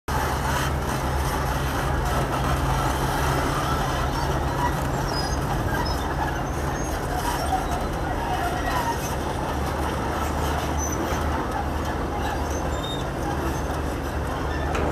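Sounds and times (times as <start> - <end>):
diesel engines droning: 0.1 - 14.9.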